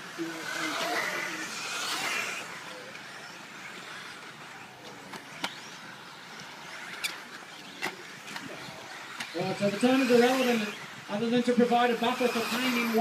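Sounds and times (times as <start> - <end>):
rc car motor and tyre noise: 0.0 - 13.0.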